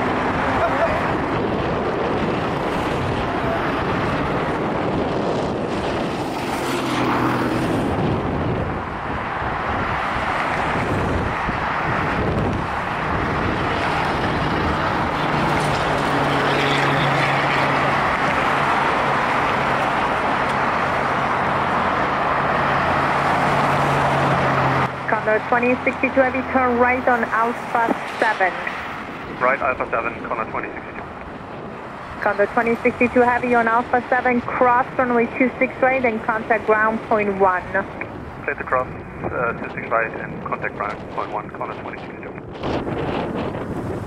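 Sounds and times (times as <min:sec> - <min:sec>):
jet engine noise: 0:00.0 - 0:44.0
low vehicle engine hum: 0:00.0 - 0:44.0
road traffic passing: 0:00.0 - 0:44.0.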